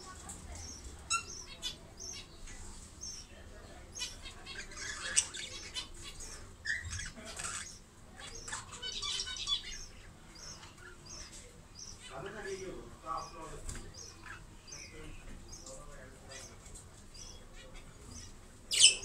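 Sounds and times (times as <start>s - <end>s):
budgerigars twittering and chirping: 0.0s - 19.0s.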